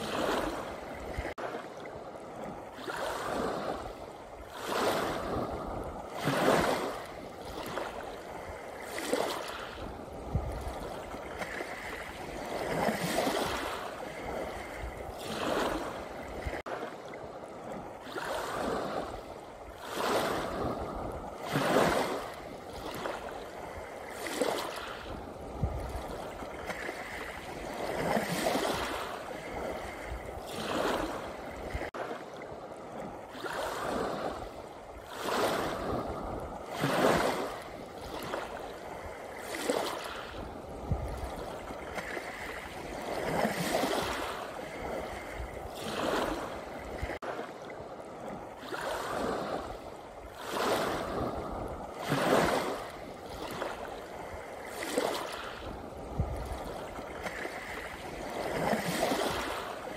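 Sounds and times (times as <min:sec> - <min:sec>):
waves breaking on pebble beach: 0:00.0 - 0:59.9.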